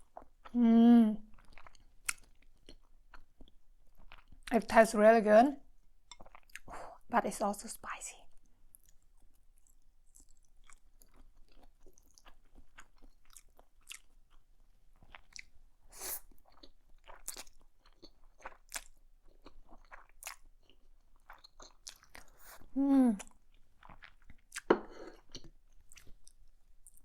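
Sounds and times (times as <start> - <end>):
person chewing food: 1.3 - 4.5, 5.8 - 7.0, 8.7 - 27.0.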